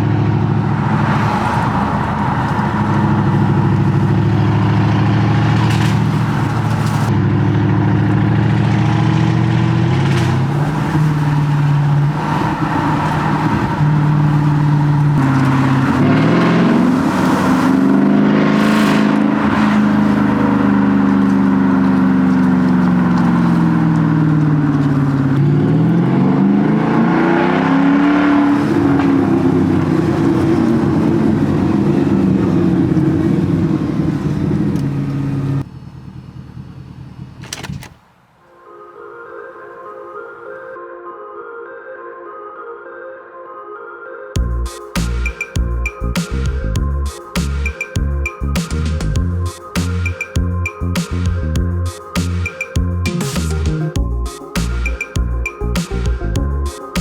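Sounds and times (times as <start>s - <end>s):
engine exhaust revving: 0.0s - 37.6s, 44.4s - 57.0s.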